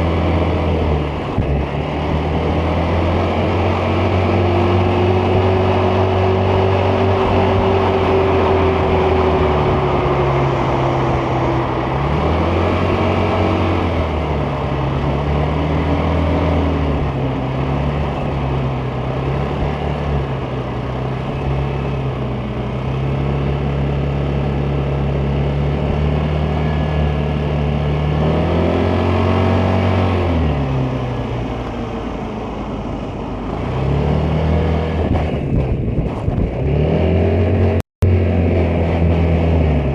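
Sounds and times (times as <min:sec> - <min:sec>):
scooter engine revving: 0:00.0 - 0:32.4.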